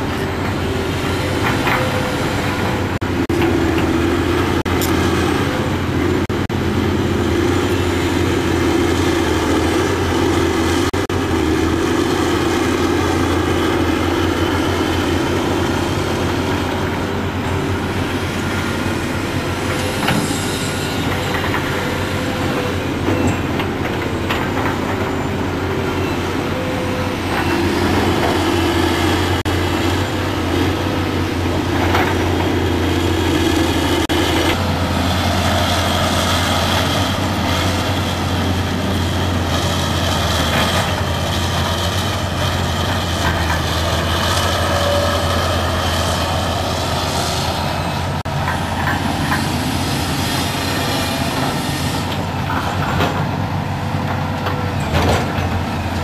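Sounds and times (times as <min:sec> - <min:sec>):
heavy diesel engines under load: 0:00.0 - 0:56.0.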